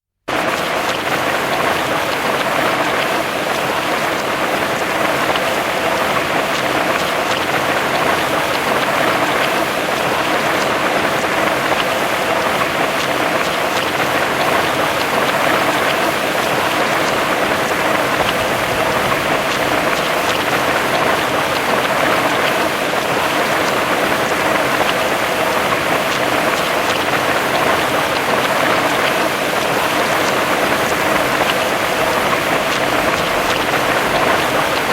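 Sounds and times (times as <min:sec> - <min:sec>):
heavy rain falling: 0:00.3 - 0:34.9.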